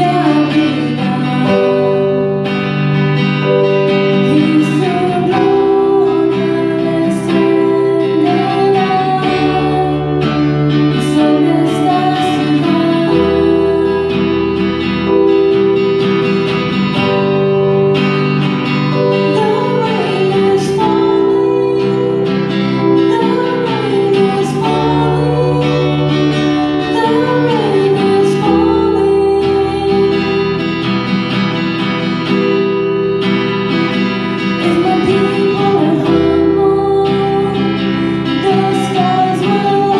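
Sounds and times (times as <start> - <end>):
woman singing: 0.0 - 2.7, 3.4 - 15.8, 18.8 - 31.2, 33.7 - 39.9
keyboard playing held chords: 0.0 - 39.9
strummed guitar: 0.0 - 39.9.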